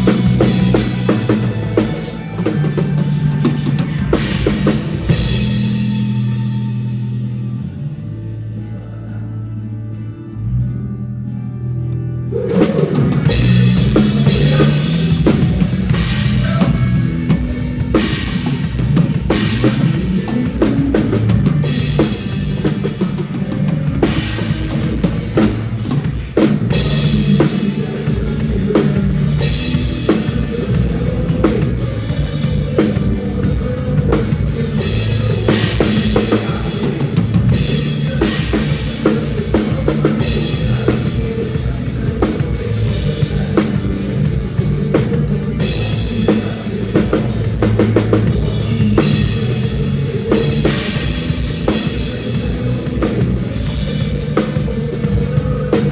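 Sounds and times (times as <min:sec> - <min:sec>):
drum kit steady beat: 0:00.0 - 0:07.2, 0:12.4 - 0:55.9
backing song with bass line: 0:00.0 - 0:55.9.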